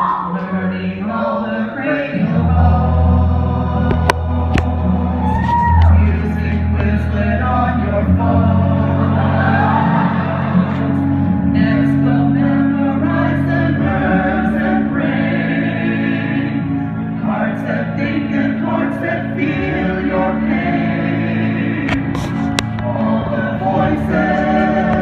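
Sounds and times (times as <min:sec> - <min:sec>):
group singing in chorus: 0:00.0 - 0:25.0.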